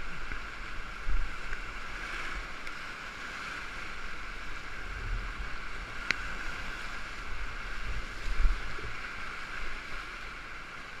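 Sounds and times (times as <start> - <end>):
whitewater rapid rushing: 0.0 - 11.0.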